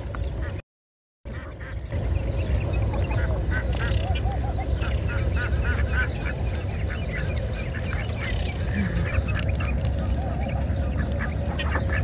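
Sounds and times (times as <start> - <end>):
ducks quacking: 1.3 - 12.0
steady low rumble: 1.3 - 12.0.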